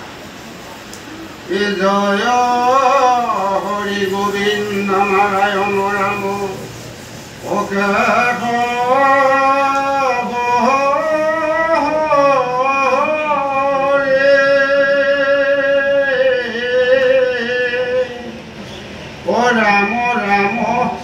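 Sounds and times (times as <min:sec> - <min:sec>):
man chanting into a microphone: 0:01.5 - 0:06.8, 0:07.4 - 0:18.4, 0:19.2 - 0:21.0.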